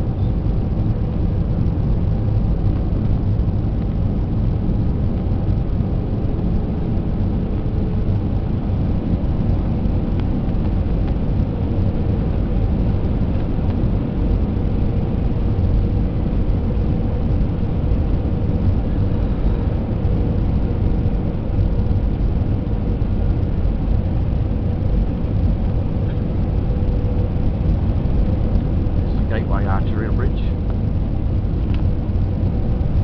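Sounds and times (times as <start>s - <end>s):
jet engines rumbling in cabin: 0.0s - 33.0s.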